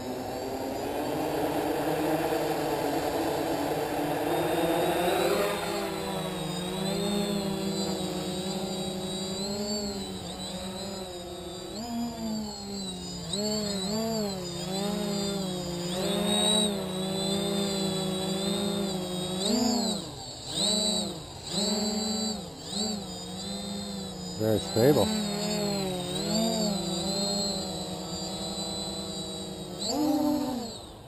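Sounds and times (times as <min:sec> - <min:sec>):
quadcopter motors buzzing: 0:00.0 - 0:31.0.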